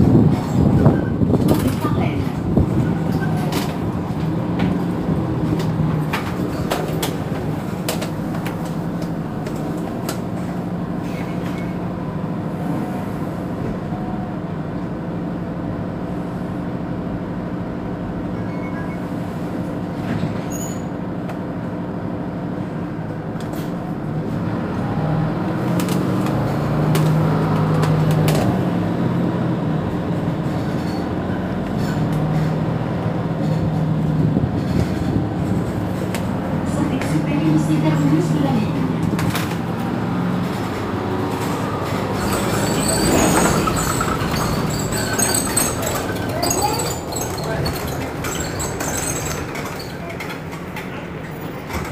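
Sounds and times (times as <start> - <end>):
bus engine idling: 0.0 - 51.9.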